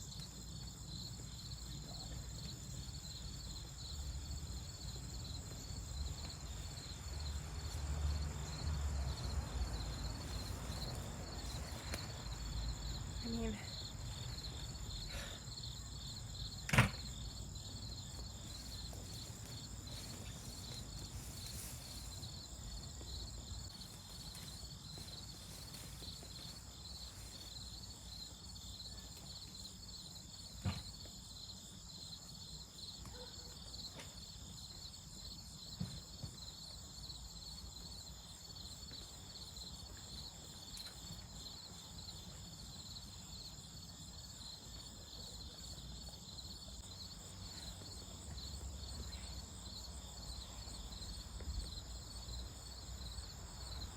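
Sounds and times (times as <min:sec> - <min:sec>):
pulsing chorus of insects: 0:00.0 - 0:53.9.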